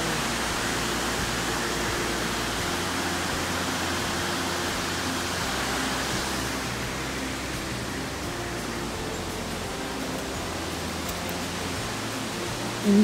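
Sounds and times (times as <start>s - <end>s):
fast white-water stream: 0.0s - 13.0s
waterfall rushing: 0.0s - 13.0s.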